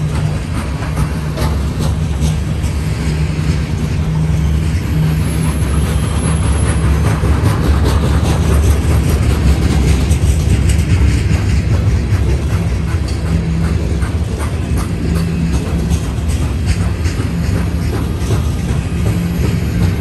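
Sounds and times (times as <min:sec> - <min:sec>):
train wheels rumbling on rail: 0:00.0 - 0:20.0
wheels and couplings clanking: 0:00.0 - 0:20.0.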